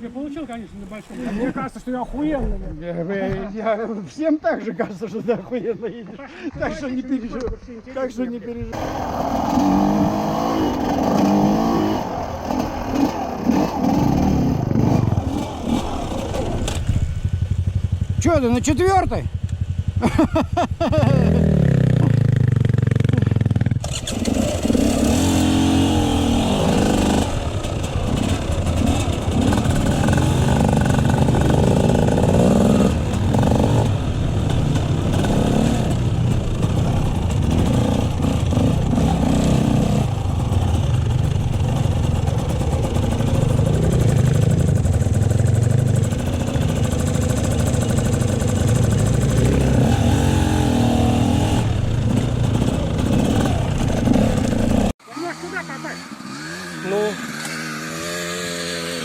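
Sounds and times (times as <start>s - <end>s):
motorcycle engine revving: 8.7s - 59.0s.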